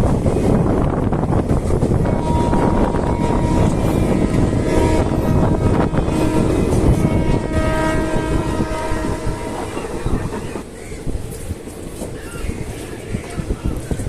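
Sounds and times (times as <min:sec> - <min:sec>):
train carriage rumbling rattle: 0:00.0 - 0:14.0.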